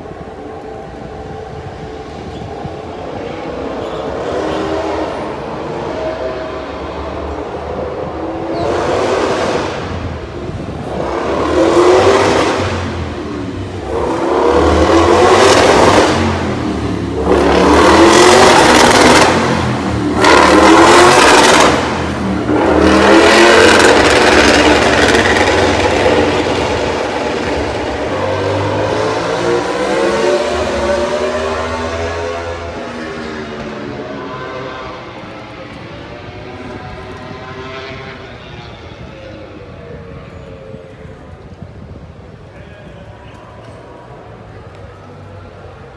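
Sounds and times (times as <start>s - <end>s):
race motorcycles passing at speed: 2.9s - 40.2s.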